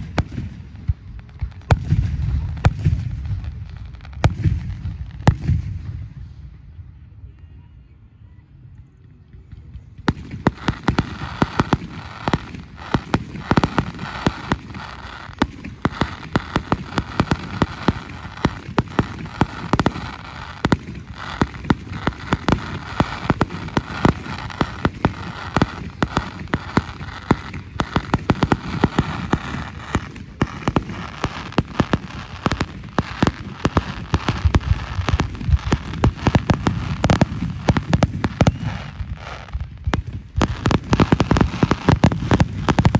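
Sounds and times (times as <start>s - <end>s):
fireworks bangs and crackle: 0.0s - 7.2s, 9.0s - 42.9s.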